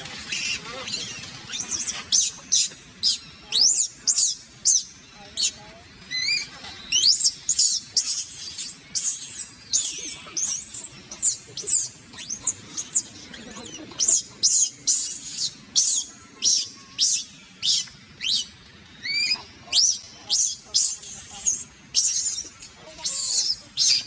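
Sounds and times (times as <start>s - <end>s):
baby monkey screaming: 0.3s - 24.0s.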